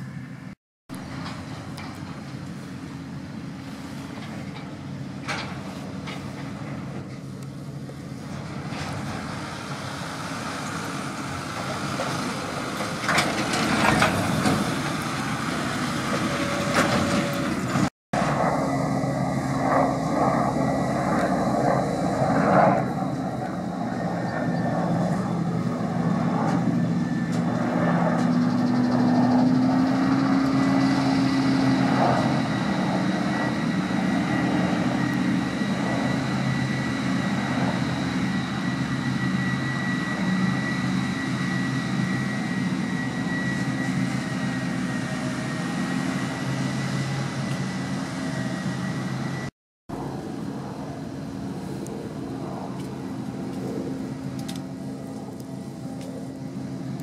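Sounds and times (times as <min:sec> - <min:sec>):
forage harvester engine drone: 0:00.0 - 0:57.0
tractor running: 0:00.0 - 0:57.0.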